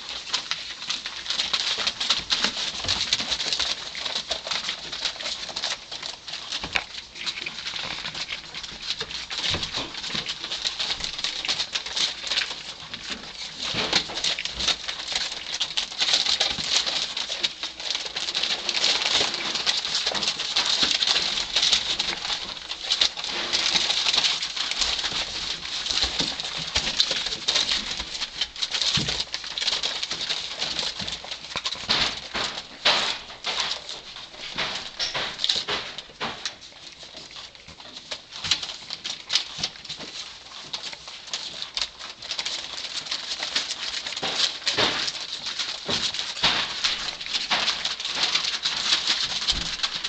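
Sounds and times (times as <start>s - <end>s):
paws rustling on newspaper: 0.0s - 50.0s.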